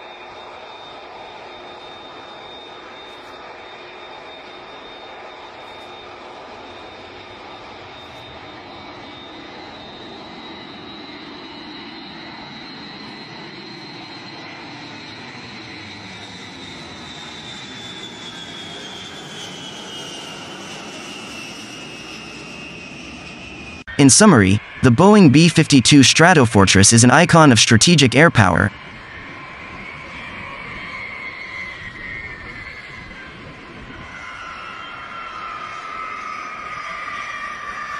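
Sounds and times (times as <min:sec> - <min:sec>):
high engine whine: 0:00.0 - 0:37.8
jet engines roaring overhead: 0:00.0 - 0:37.9.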